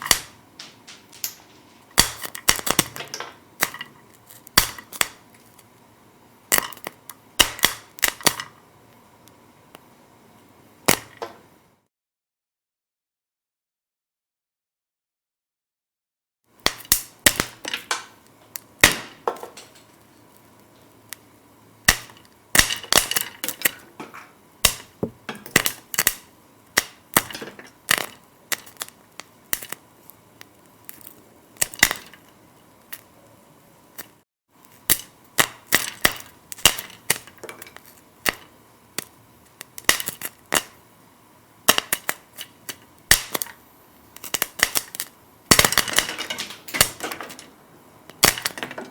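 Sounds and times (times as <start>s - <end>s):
popcorn popping: 0.0s - 9.9s, 10.8s - 11.5s, 16.5s - 48.9s.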